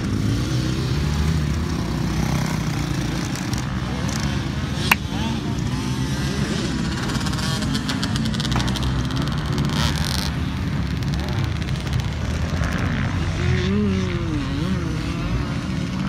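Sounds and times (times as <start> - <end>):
dirt bike engines running: 0.0 - 16.0.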